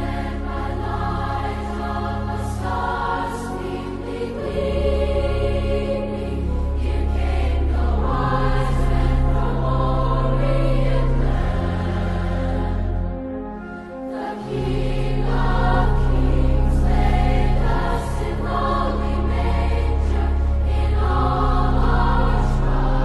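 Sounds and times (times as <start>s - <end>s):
choir singing sustained chords: 0.0s - 23.0s.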